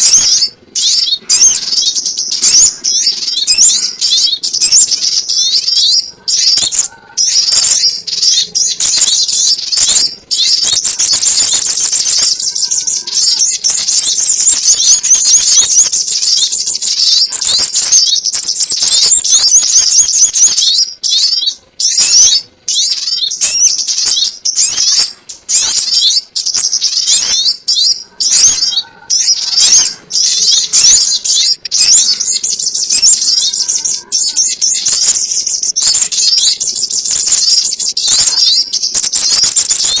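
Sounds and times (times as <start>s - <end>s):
bird twittering and chirping: 0.0s - 40.0s.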